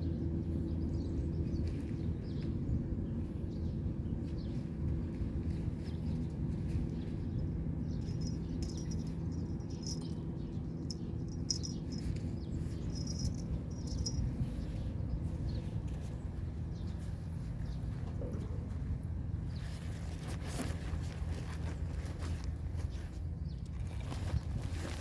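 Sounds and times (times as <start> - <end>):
steady low rumble: 0.0 - 20.2.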